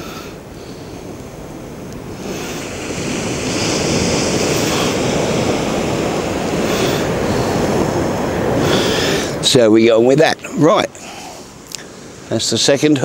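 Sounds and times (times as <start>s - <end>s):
surf on shingle beach: 0.0s - 13.0s
wind: 0.0s - 13.0s.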